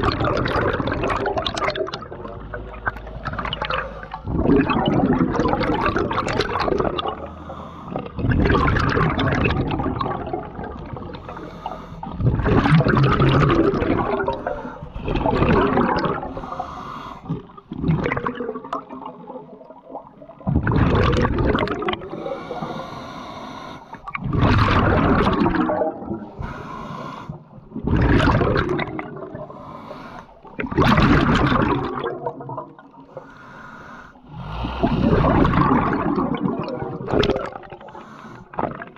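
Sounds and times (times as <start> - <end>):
diver breathing underwater: 0.0 - 18.6, 20.6 - 38.9
exhaled bubbles gurgling: 0.0 - 38.9.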